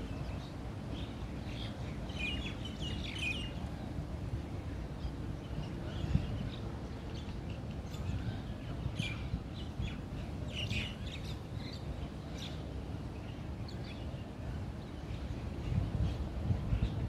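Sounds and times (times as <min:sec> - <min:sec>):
low rumble of outdoor noise: 0:00.0 - 0:17.0.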